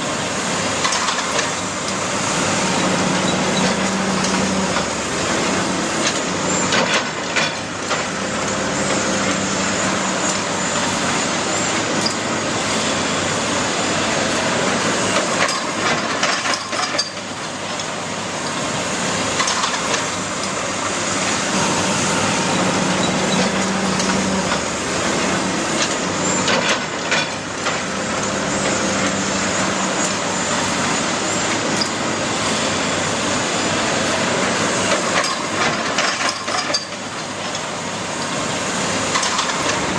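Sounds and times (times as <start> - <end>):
diesel engine of heavy machine: 0.0 - 39.9.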